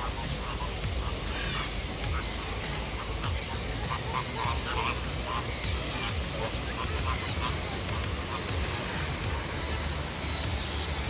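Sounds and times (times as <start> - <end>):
birds calling: 0.0 - 11.0
high bird chirps: 0.0 - 11.0.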